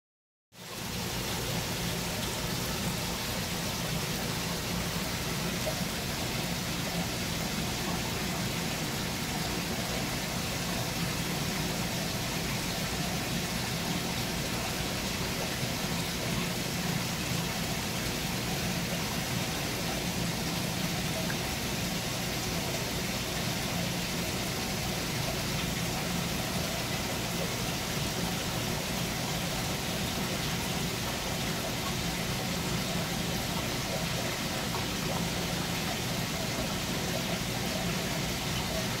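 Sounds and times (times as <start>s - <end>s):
aquarium water circulation hiss: 0.6s - 39.0s.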